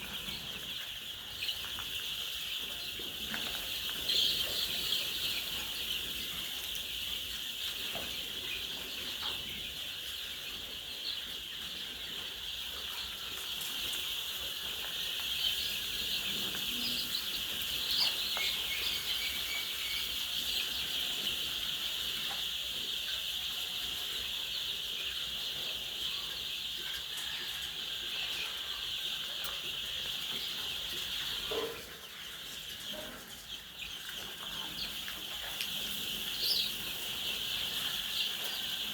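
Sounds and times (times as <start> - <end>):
flock of chickens calling: 0.0 - 38.9.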